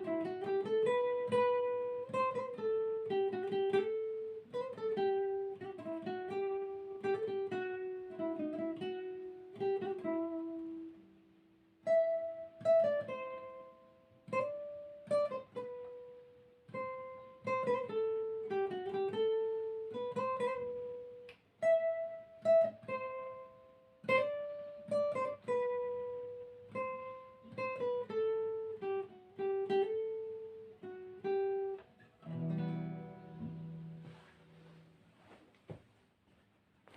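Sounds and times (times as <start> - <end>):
plucked string instrument melody: 0.0 - 11.1, 11.9 - 34.8.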